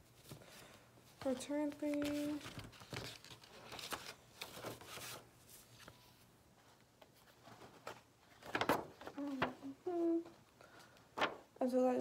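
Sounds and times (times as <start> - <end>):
paper rustling: 0.1 - 11.6.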